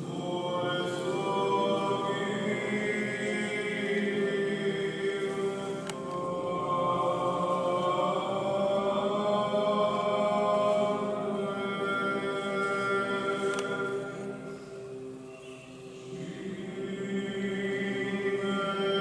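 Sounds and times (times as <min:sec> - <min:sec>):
liturgical chant singing: 0:00.0 - 0:19.0.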